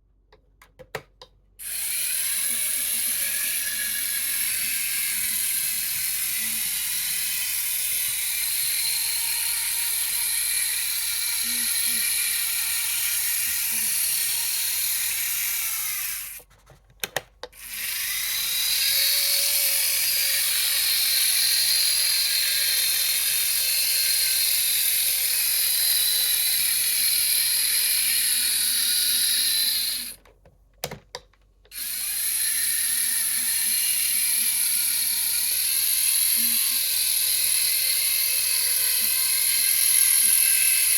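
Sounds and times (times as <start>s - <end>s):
model locomotive motor whirring: 1.6s - 16.5s, 17.6s - 30.2s, 31.7s - 40.9s.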